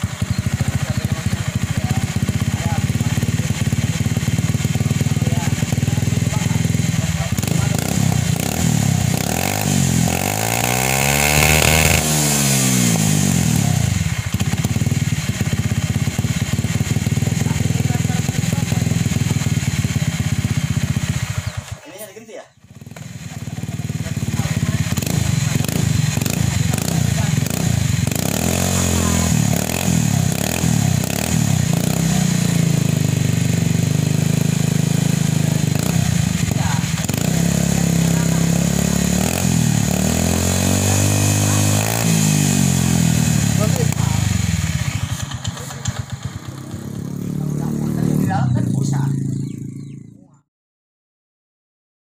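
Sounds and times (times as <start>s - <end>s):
scooter engine revving: 0.0s - 50.2s.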